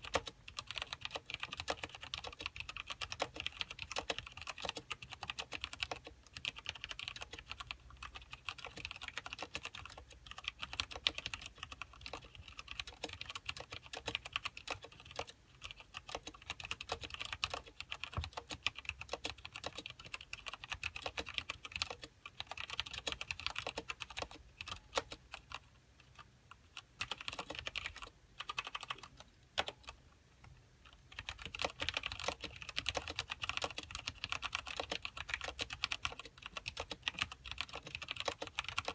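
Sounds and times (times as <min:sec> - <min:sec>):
mechanical keyboard typing: 0:00.0 - 0:30.0, 0:30.9 - 0:38.9.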